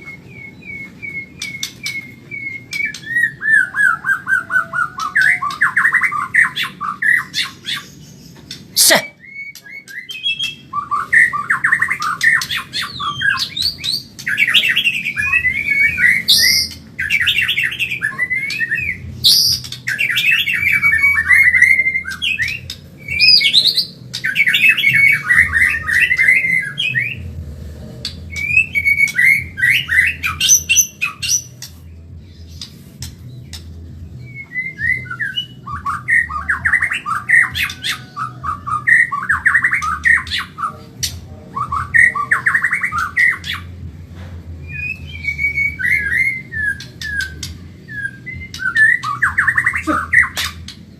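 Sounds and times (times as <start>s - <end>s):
bird singing trilled notes: 0.0s - 44.0s, 44.6s - 50.9s.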